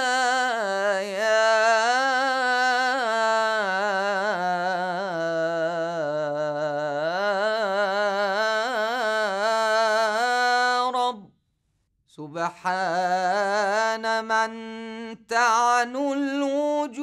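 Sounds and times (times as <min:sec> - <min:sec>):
man chanting: 0:00.0 - 0:11.3, 0:12.2 - 0:17.0.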